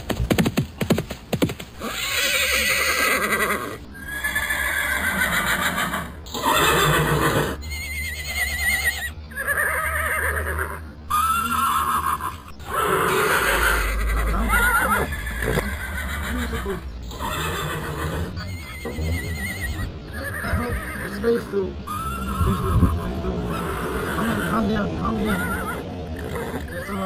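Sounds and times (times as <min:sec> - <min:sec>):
horse neighing and whinnying: 0:01.8 - 0:27.0.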